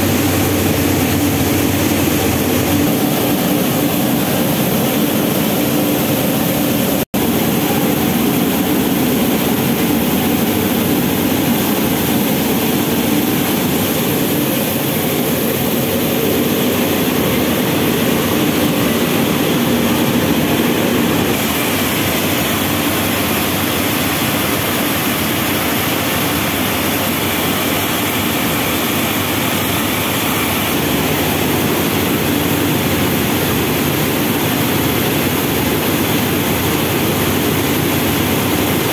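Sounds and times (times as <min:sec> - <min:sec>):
rice mill machinery running: 0:00.0 - 0:38.9.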